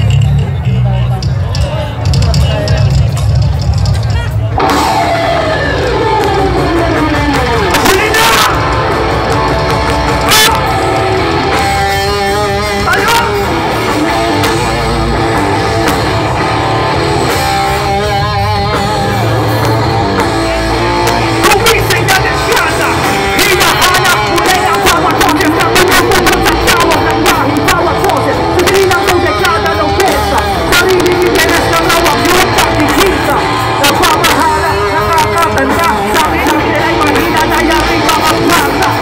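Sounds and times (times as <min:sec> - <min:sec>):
live rock band: 0:00.0 - 0:39.0.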